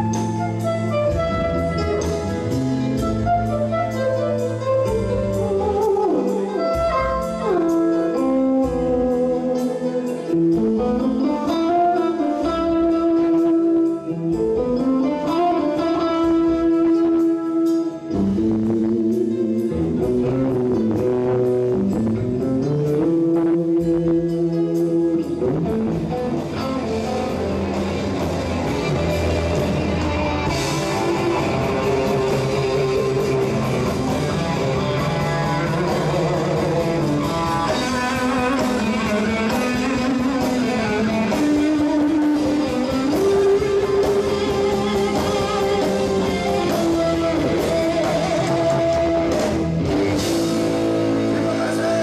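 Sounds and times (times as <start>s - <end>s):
electric guitars sliding melody: 0.0s - 52.0s
live rock band: 0.0s - 52.0s.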